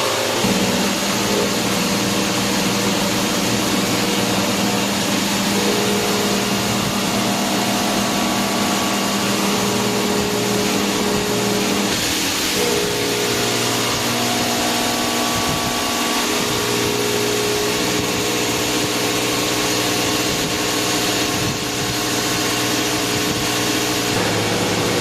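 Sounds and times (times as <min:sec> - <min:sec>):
laser cutting machine hissing: 0:00.0 - 0:25.0
second hum tone: 0:00.0 - 0:25.0.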